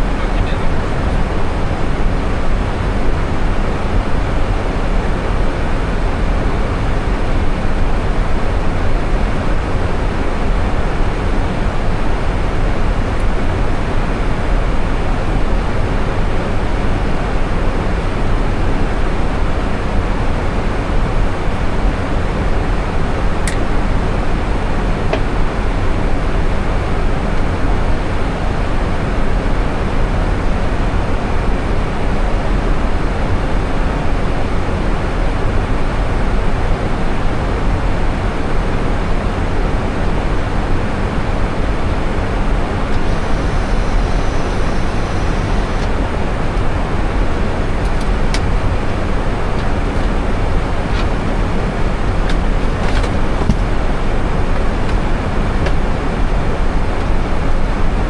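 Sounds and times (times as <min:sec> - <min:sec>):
airflow and engine rushing: 0:00.0 - 0:28.7, 0:36.8 - 0:58.0.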